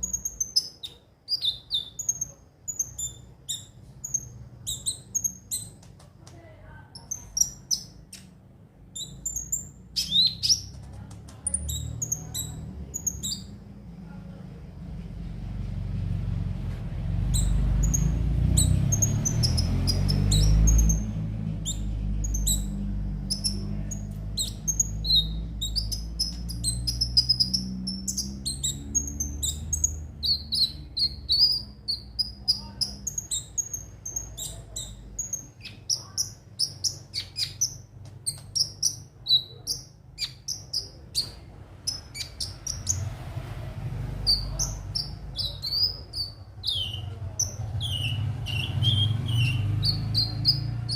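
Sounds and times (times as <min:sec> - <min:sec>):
sunbird chirping and trilling: 0:00.0 - 0:13.7, 0:17.0 - 0:43.4, 0:44.0 - 0:50.9.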